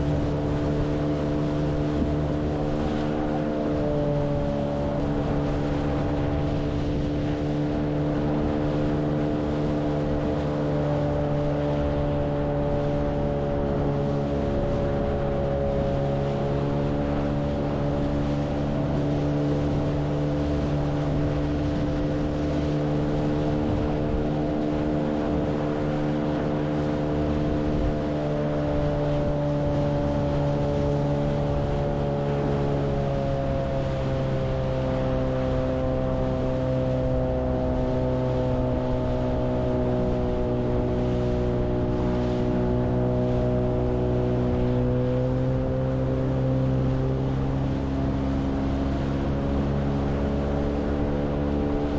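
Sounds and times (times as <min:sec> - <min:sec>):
outboard motor running: 0:00.0 - 0:51.9
wind noise: 0:00.0 - 0:51.9.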